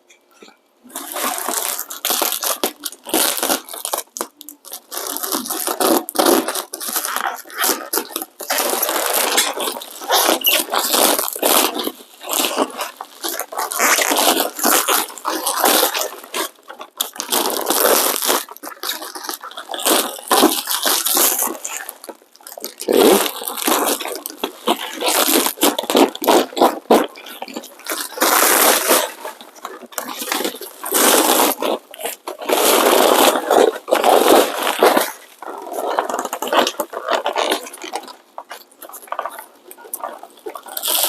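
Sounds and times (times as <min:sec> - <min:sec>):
plastic packaging crinkling: 0:00.9 - 0:41.0.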